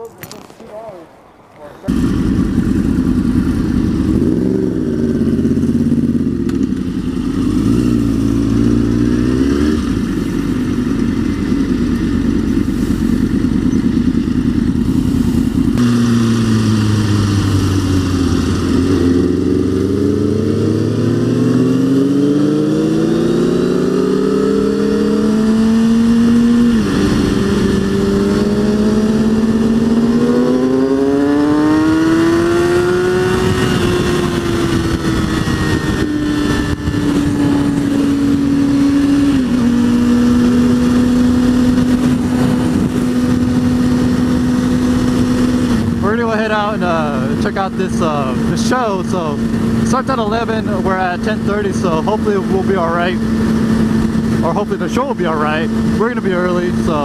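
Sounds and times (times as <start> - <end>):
motorcycle engine accelerating: 1.8 - 57.0.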